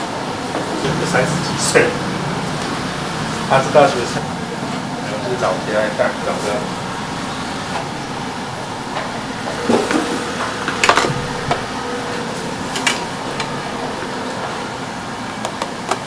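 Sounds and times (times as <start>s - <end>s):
workroom background noise: 0.0s - 16.0s
utensils clattering and knocking: 0.5s - 14.7s.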